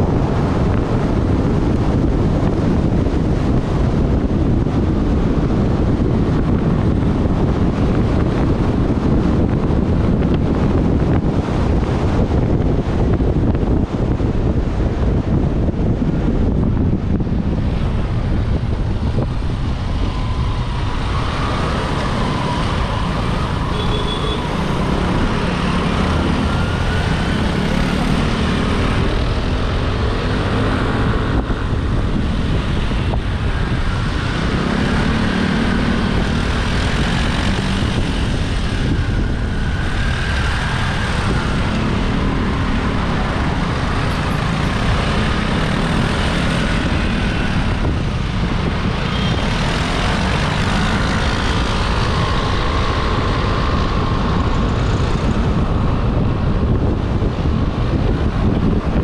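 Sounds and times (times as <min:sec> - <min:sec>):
road and traffic rumble: 0:00.0 - 0:59.0.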